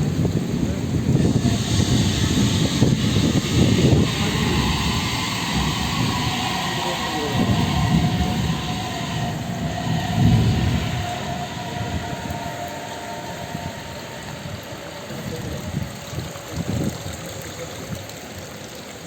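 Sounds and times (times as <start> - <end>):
passing vehicle rumble: 0.0 - 16.9
rain hiss: 0.0 - 19.0.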